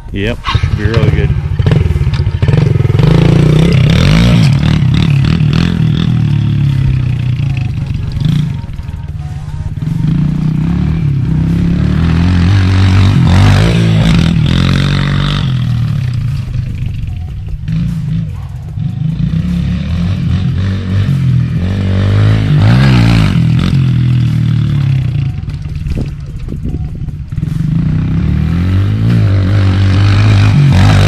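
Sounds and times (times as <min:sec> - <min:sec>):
pit bike engine revving: 0:00.3 - 0:31.0.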